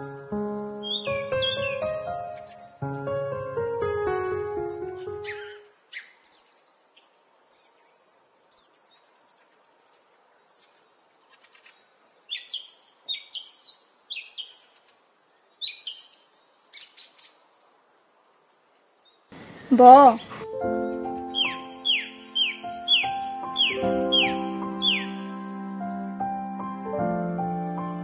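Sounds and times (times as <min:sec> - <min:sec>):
small birds chirping: 0:00.0 - 0:03.0, 0:04.6 - 0:26.3.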